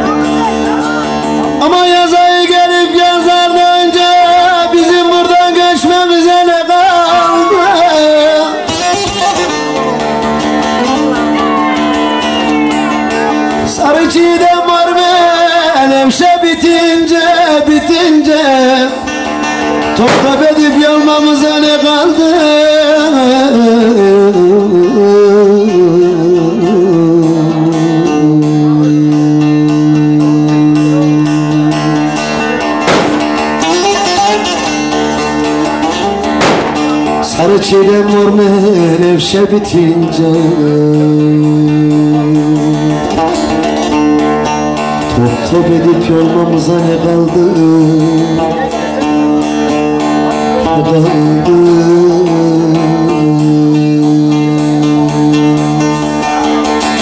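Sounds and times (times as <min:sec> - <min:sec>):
person singing: 0:00.0 - 0:10.0, 0:10.6 - 0:19.2, 0:19.9 - 0:32.7, 0:36.8 - 0:43.7, 0:45.0 - 0:49.1, 0:50.3 - 0:57.0
long-necked lute picked rapidly: 0:00.0 - 0:57.0.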